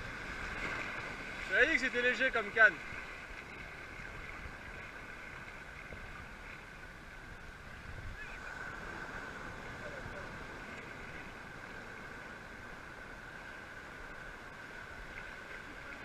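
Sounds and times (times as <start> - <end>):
surf washing in shallows: 0.0 - 16.0
wind rumbling on microphone: 2.8 - 16.0.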